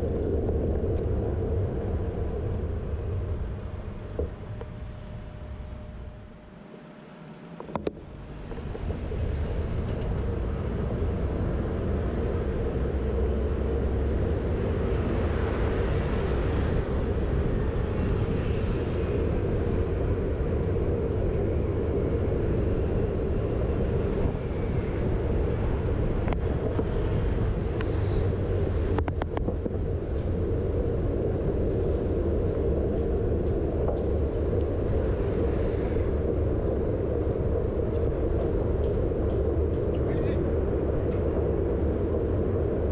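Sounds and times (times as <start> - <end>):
bicycle rolling noise: 0.0 - 6.6, 7.5 - 42.9.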